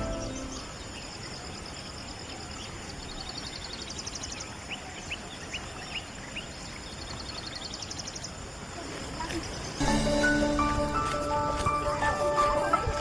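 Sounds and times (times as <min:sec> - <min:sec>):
bird chirping: 0:00.0 - 0:13.0
steady hiss: 0:00.0 - 0:13.0.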